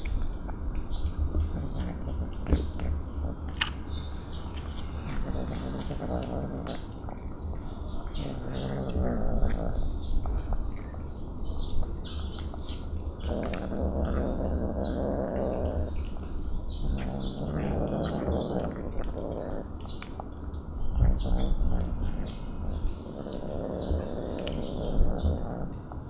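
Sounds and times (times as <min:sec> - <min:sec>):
kittens growling: 0:00.0 - 0:26.0
wet chewing and smacking: 0:00.0 - 0:26.0.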